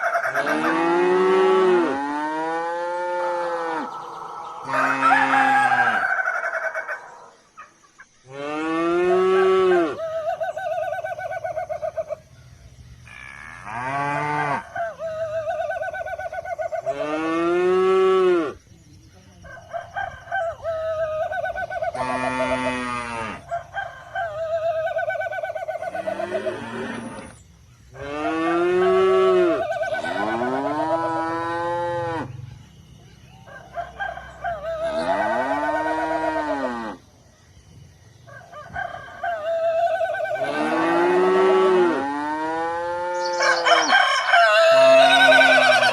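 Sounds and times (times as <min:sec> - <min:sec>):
roosters crowing: 0:00.0 - 0:07.7, 0:08.3 - 0:12.3, 0:13.0 - 0:18.6, 0:19.4 - 0:32.4, 0:33.3 - 0:37.2, 0:38.1 - 0:45.9.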